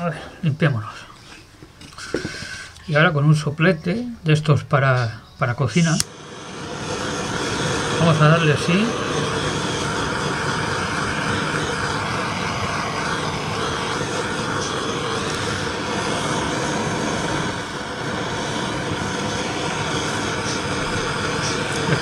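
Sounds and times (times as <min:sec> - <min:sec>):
blowtorch hissing: 0:00.0 - 0:03.0, 0:05.7 - 0:22.0.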